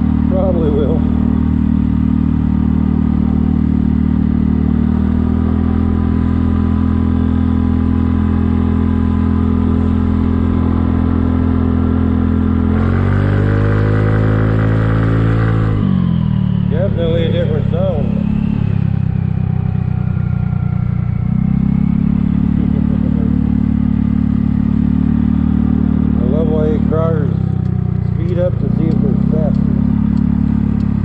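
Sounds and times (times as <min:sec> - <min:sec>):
scooter engine running: 0:00.0 - 0:31.0.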